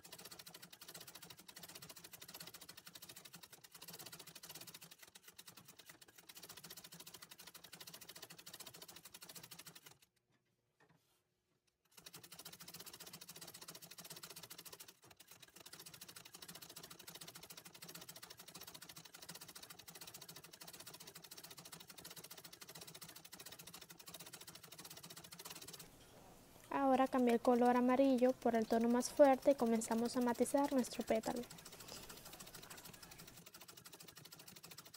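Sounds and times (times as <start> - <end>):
treadle sewing machine stitching: 0.0 - 10.0, 11.8 - 25.9, 26.7 - 34.9.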